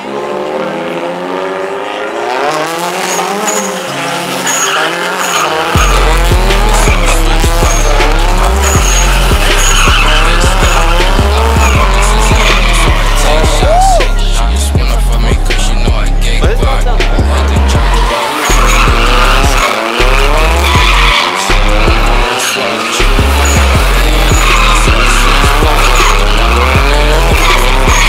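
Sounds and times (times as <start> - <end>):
car engine revving: 0.0 - 28.0
tyres squealing: 2.9 - 14.7, 17.0 - 28.0
music with heavy bass line: 5.1 - 28.0.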